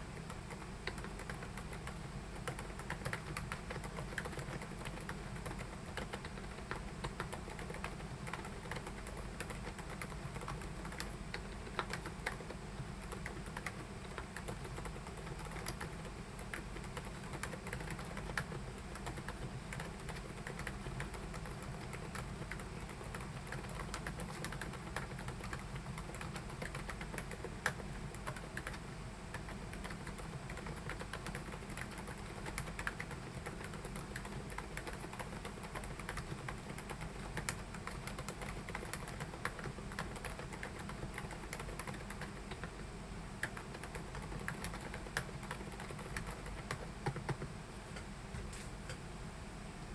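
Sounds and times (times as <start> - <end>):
mechanical keyboard typing: 0.0 - 47.5.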